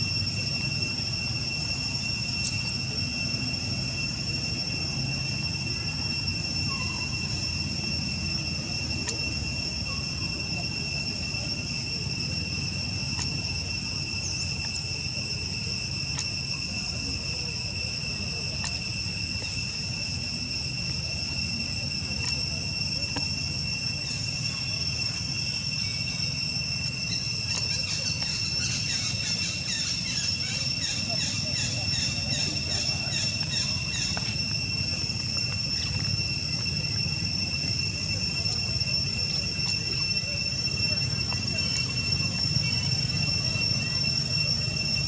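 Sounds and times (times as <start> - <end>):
high-pitched insect drone: 0.0 - 45.0.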